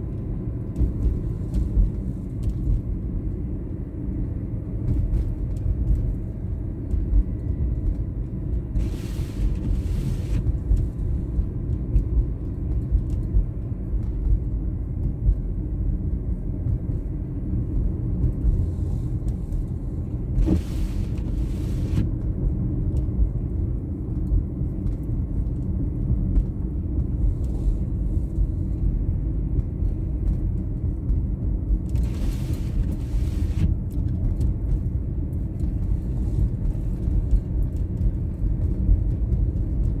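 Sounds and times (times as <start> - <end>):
car engine and tyres rumbling: 0.0 - 40.0.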